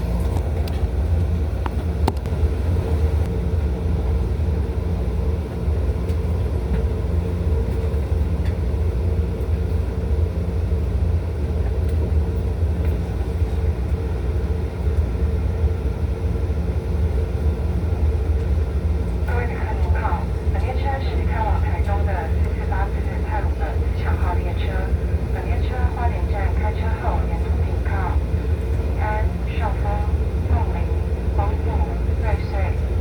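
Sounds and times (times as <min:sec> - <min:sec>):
steady hum: 0:00.0 - 0:33.0
train wheels rumbling on rail: 0:00.0 - 0:33.0.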